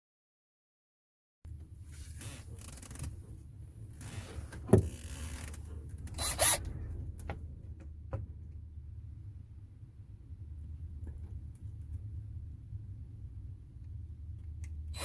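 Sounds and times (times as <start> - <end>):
low rumble: 1.5 - 15.0.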